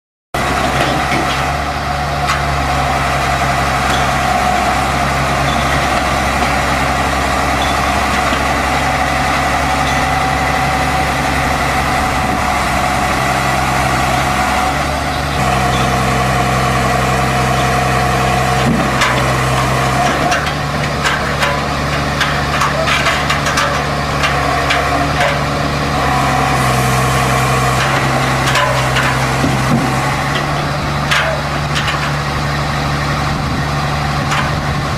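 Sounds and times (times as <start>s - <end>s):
diesel engine under changing load: 0.4s - 34.9s
steel tracks clanking on metal deck: 0.4s - 34.9s.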